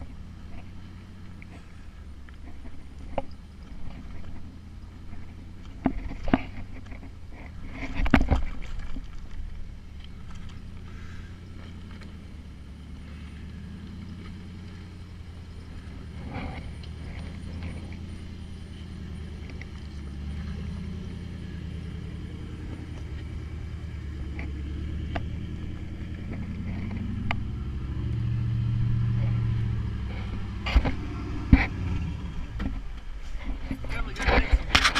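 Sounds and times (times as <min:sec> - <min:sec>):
engine running low and steady: 0:00.0 - 0:34.9.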